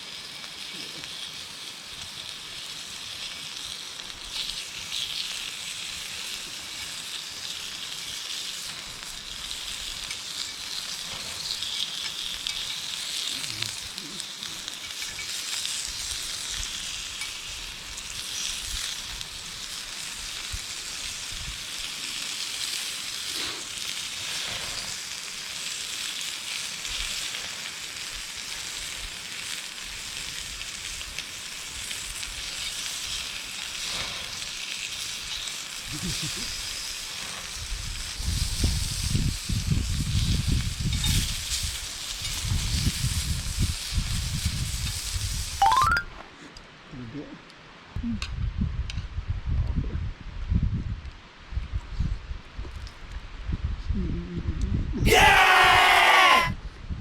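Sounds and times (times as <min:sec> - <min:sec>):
food sizzling in a pan: 0:00.0 - 0:46.0, 0:55.1 - 0:56.5.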